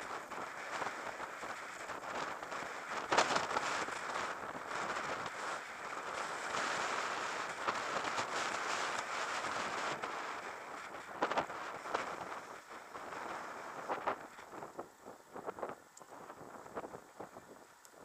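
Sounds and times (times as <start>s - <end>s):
wind rushing over microphone: 0.0s - 17.8s.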